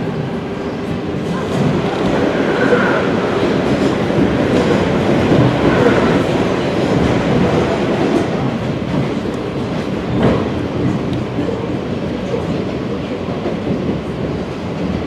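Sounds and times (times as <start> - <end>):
train wheels on track: 0.0 - 15.0.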